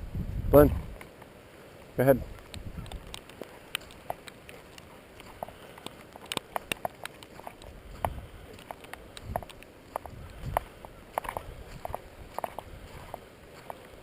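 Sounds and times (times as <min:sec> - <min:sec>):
footsteps crunching on snow and ice: 0:02.1 - 0:14.0.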